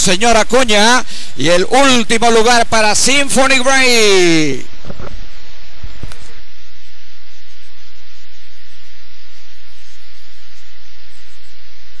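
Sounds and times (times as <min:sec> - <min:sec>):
electrical hum: 0:00.0 - 0:12.0
static hiss: 0:00.0 - 0:12.0.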